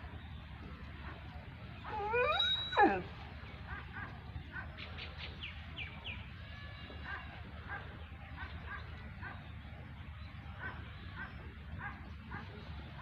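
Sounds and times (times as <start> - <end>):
birds chirping: 0.0 - 13.0
low steady rumble: 0.0 - 13.0.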